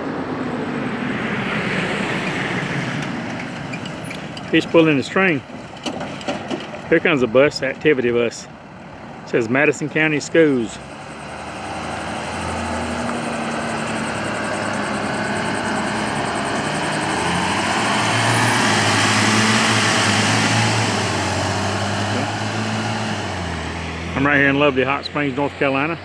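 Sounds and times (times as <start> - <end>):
bus driving past: 0.0 - 6.9, 8.5 - 26.0.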